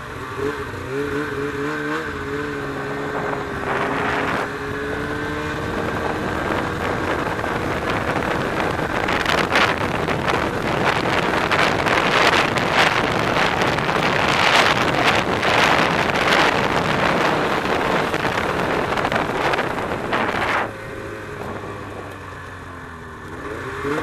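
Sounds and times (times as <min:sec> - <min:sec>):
snowmobile engine running: 0:00.0 - 0:24.0
wind on microphone: 0:02.0 - 0:22.3.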